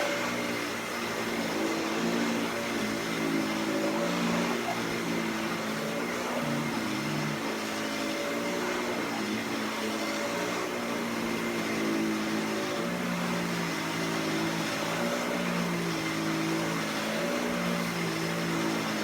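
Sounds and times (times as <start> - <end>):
upright vacuum cleaner running: 0.0 - 19.0.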